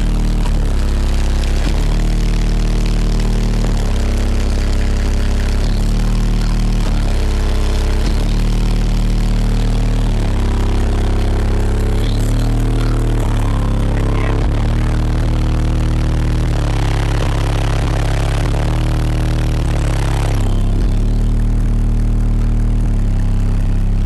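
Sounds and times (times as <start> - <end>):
bass-heavy music from subwoofers: 0.0 - 24.0.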